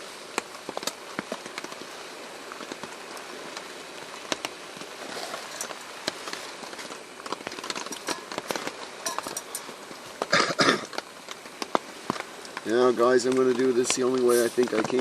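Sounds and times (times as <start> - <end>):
drops ticking on a tarp: 0.0 - 15.0
rain hissing on a tarp: 0.0 - 15.0.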